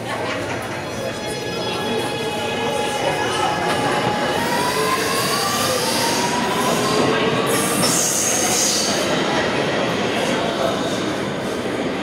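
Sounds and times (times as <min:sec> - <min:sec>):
rail noise: 0:00.0 - 0:12.0.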